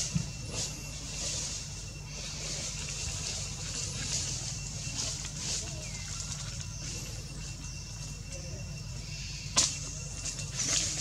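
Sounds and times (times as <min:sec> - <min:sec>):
faint chirp-like glides: 0:00.0 - 0:11.0.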